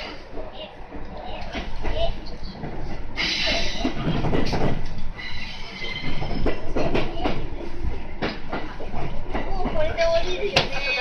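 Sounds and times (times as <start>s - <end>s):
train rumbling over rail joints: 0.0s - 11.0s.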